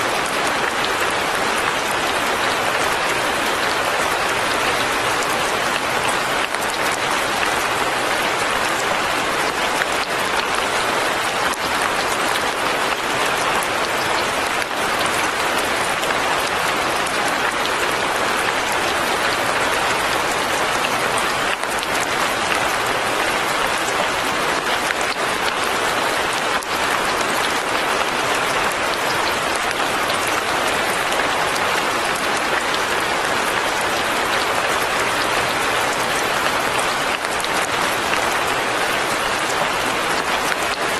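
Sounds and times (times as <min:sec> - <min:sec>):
rain falling on surfaces: 0:00.0 - 0:40.9.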